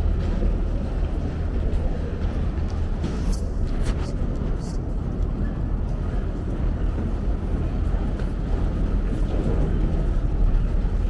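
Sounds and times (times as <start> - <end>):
train running low rumble: 0.0 - 11.0.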